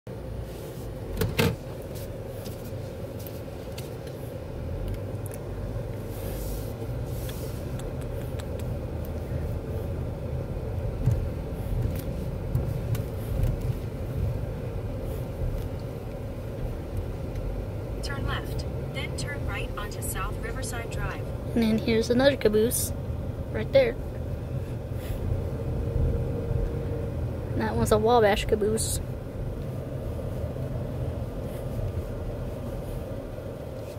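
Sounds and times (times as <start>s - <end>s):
car engine and tyre rumble: 0.1s - 33.9s
faint steady hum: 0.1s - 33.9s.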